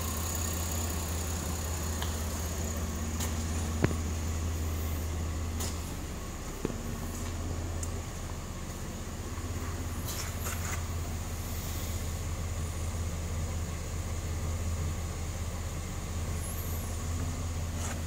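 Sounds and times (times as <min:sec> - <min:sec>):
car engine idling exhaust hum: 0:00.0 - 0:18.0.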